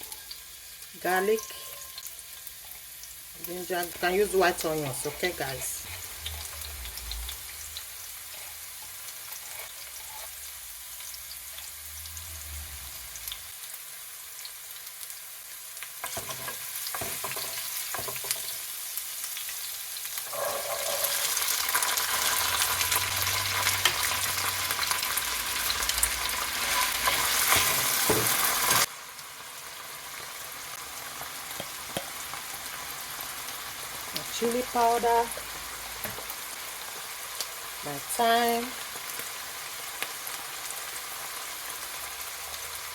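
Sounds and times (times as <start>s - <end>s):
onions sizzling in oil: 0.0s - 42.9s.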